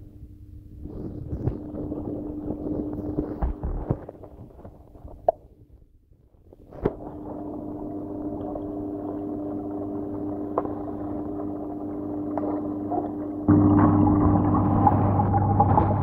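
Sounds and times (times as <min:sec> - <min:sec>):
aquarium filter pump humming: 0:00.0 - 0:05.1, 0:06.7 - 0:16.0.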